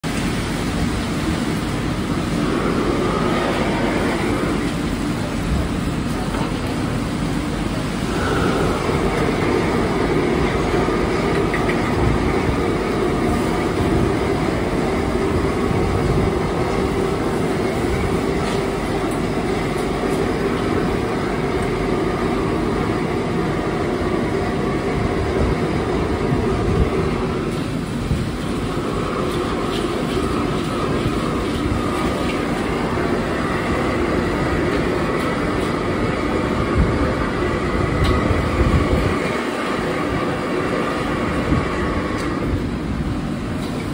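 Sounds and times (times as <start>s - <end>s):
gas burners roaring: 0.0s - 43.9s.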